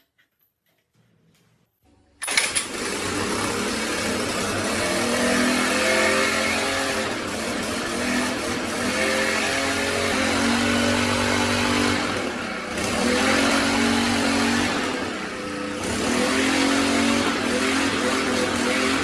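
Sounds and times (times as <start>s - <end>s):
water pump engine running: 2.2s - 19.0s.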